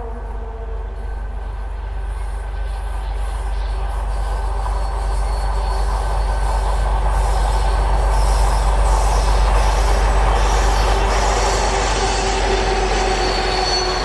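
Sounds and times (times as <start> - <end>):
diesel locomotive engine passing: 0.0 - 14.0.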